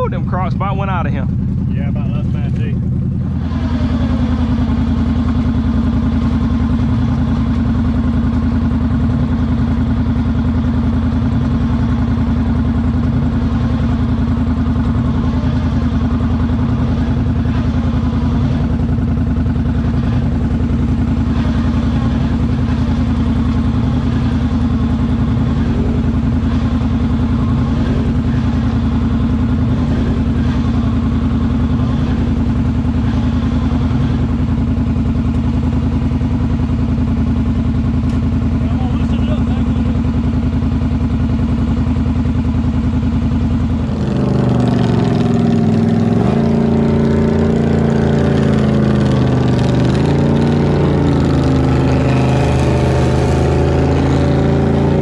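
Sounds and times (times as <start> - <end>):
atv engine running at low revs: 0.0 - 55.0.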